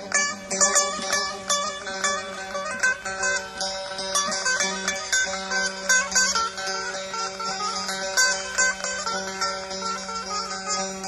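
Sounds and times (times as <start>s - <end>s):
plucked long-necked lute folk music: 0.0s - 11.0s.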